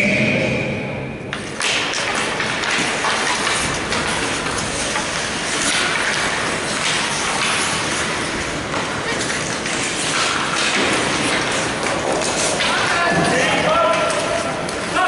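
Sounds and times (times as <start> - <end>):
hockey sticks clacking: 1.3 - 15.0
skate blades scraping ice: 1.4 - 15.0.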